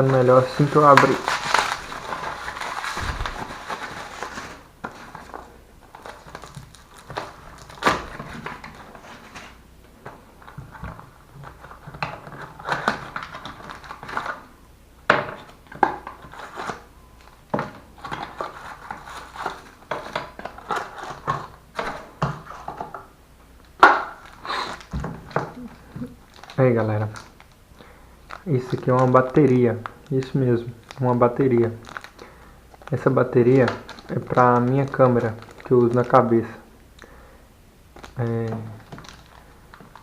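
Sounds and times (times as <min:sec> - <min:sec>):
packaging crinkling and tearing: 0:00.0 - 0:14.6, 0:15.4 - 0:23.0, 0:23.6 - 0:37.1, 0:38.0 - 0:40.0.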